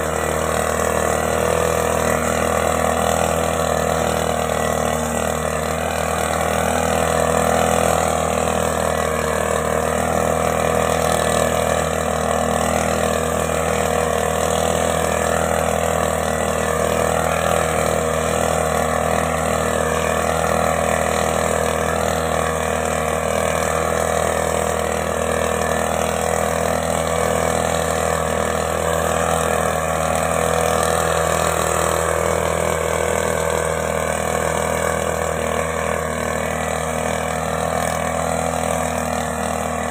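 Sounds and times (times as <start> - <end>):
mist blower engine running: 0.0 - 39.9.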